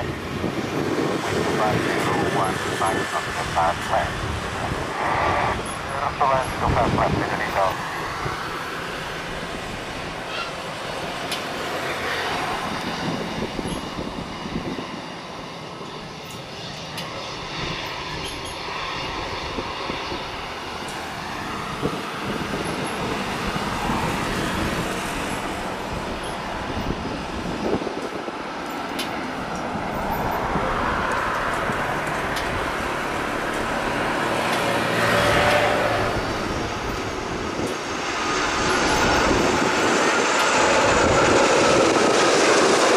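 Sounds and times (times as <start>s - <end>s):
jet engine rumble and whine: 0.0s - 42.9s.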